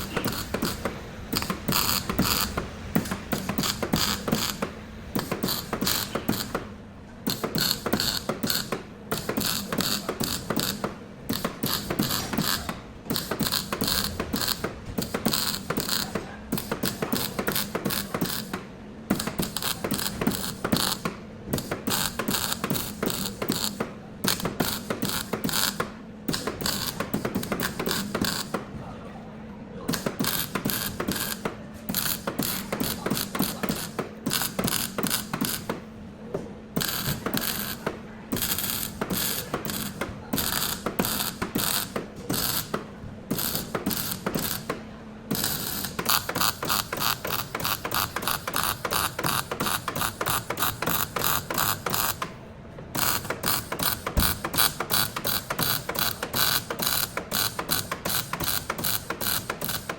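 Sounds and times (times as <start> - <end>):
rapid mechanical clicking of tool: 0.0 - 28.7, 29.9 - 36.0, 36.7 - 59.9.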